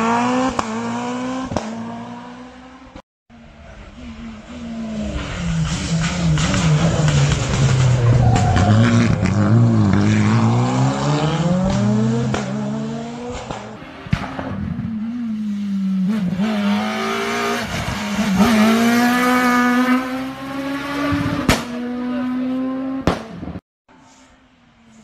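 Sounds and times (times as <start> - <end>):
rally car engines revving: 0.0 - 24.0.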